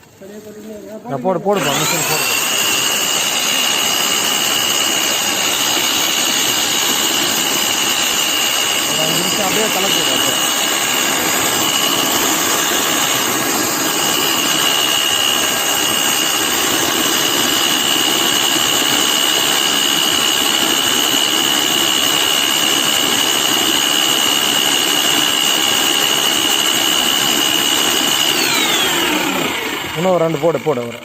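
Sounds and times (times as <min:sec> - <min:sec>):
electric paddle mixer whining: 0:00.0 - 0:31.0
mix churning: 0:00.0 - 0:31.0.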